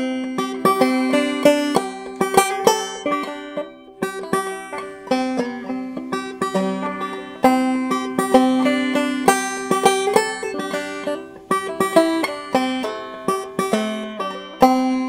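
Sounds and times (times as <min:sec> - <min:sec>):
banjo plucked notes: 0:00.0 - 0:15.0.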